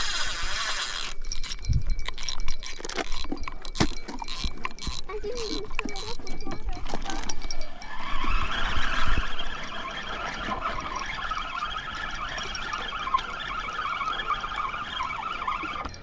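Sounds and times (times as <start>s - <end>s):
fishing reel gears whirring: 0.0s - 16.0s.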